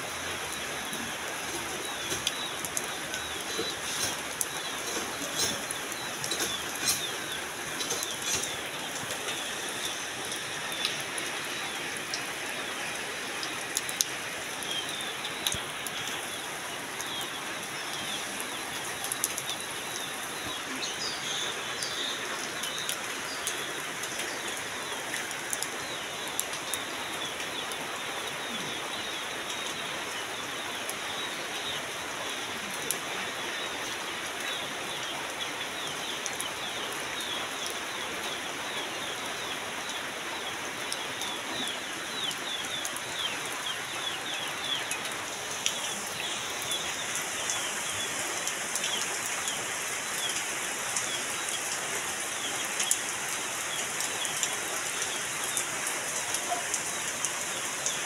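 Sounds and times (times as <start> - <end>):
heavy rain splashing into water: 0.0 - 58.0.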